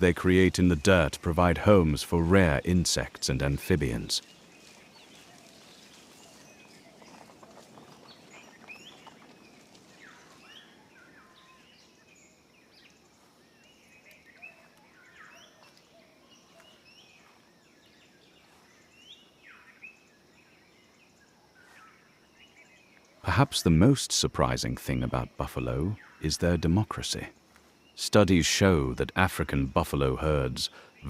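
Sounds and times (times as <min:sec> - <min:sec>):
low steady background hiss: 0:00.0 - 0:31.0
small birds chirping: 0:00.0 - 0:31.0.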